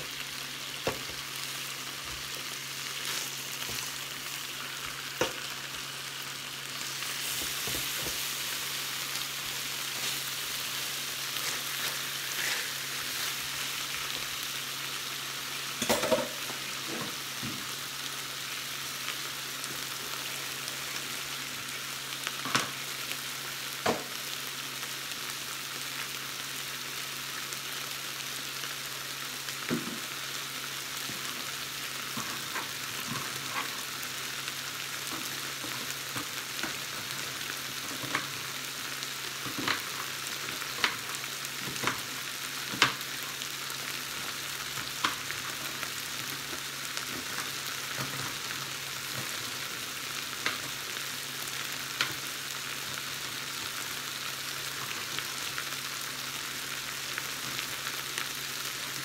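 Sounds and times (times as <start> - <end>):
meat sizzling on a grill: 0.0 - 59.0.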